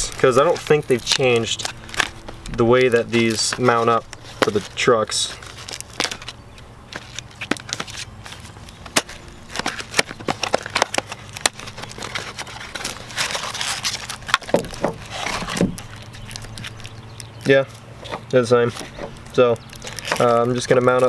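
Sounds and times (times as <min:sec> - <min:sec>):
plastic wrap crinkling: 0:00.0 - 0:21.0.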